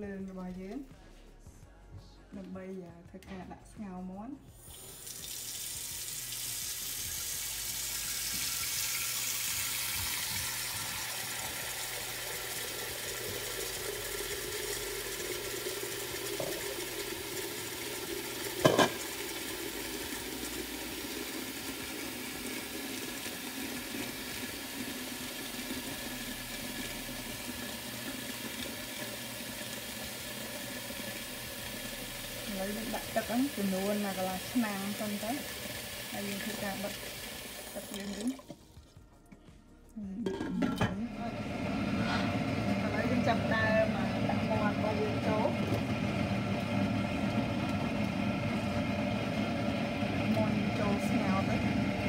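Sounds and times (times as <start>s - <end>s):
water pouring into metal pot: 4.6s - 38.8s, 40.2s - 52.0s.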